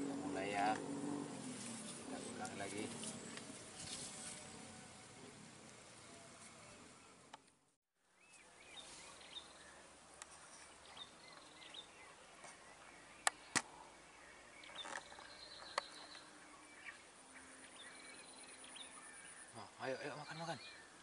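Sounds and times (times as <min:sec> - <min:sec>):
small birds chirping: 0:00.0 - 0:07.5, 0:08.1 - 0:21.0.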